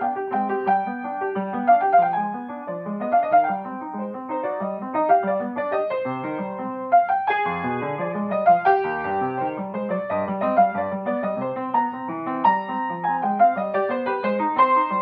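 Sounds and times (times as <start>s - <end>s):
upright piano fast classical passage: 0.0s - 15.0s.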